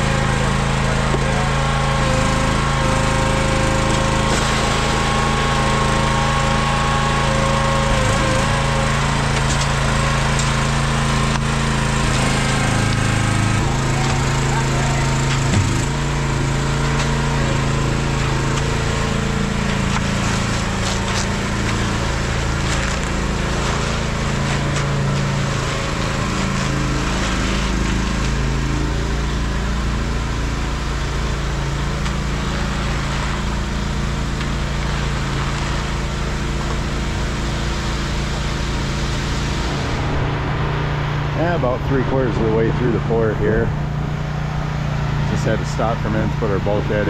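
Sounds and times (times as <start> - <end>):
rakes scraping wet concrete: 0.0 - 40.4, 41.4 - 47.0
small engine running: 0.0 - 47.0.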